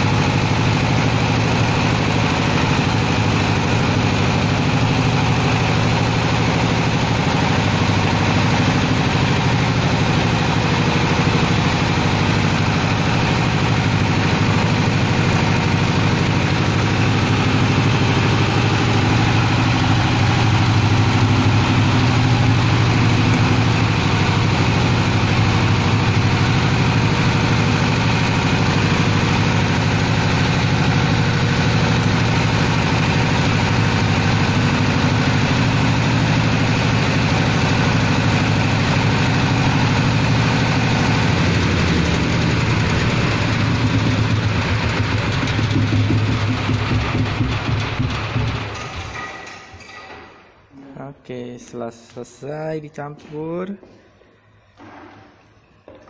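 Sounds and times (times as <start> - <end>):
mixing machine motor hum: 0.0 - 50.8.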